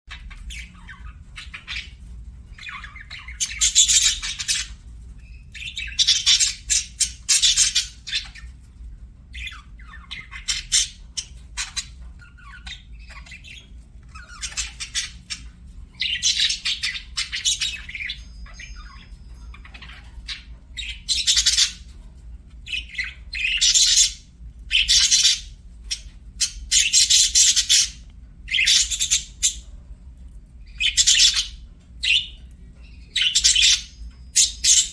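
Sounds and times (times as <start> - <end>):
budgerigars chirping and squawking: 0.1 - 29.9, 30.6 - 34.9.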